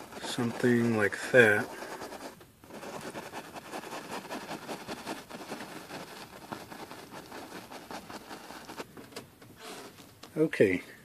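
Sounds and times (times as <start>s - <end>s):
brush scrubbing paint on canvas: 0.0s - 8.9s.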